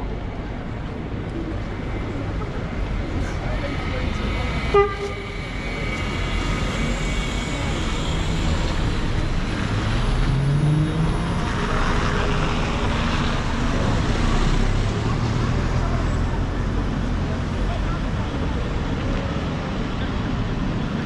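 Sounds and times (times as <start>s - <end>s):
bus engine drone and tyres: 0.0s - 21.0s
busy street traffic: 0.0s - 21.0s.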